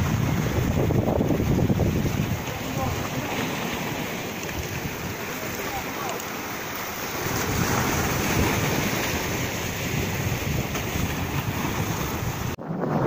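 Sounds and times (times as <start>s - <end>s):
wind buffeting microphone: 0.0s - 6.0s, 6.9s - 13.0s
rough sea: 0.0s - 13.0s.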